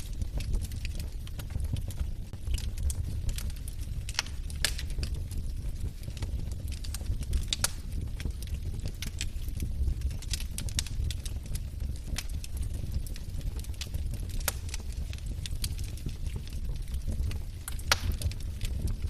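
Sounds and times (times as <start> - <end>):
logs crackling and popping: 0.0 - 19.0
rumble of flames: 0.0 - 19.0.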